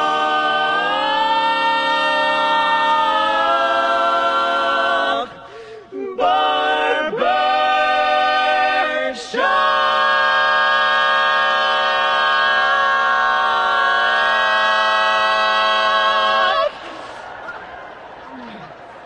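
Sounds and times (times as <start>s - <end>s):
men singing in close harmony: 0.0s - 16.8s.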